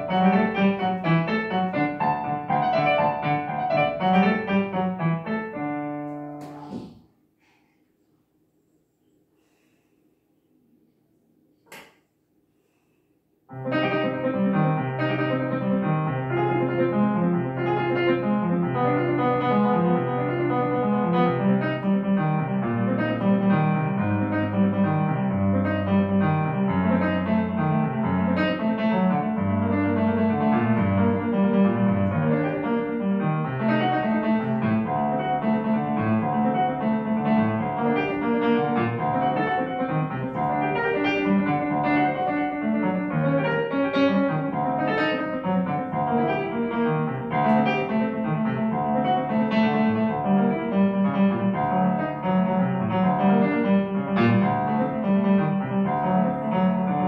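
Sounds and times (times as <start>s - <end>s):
solo piano classical piece: 0.0s - 7.0s, 13.5s - 57.0s.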